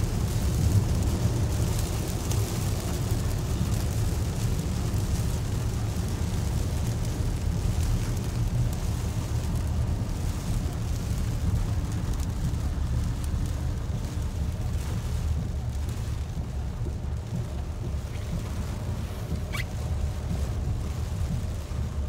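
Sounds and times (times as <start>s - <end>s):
car cabin low rumble: 0.0s - 22.0s
rain and wet road hiss: 0.0s - 22.0s.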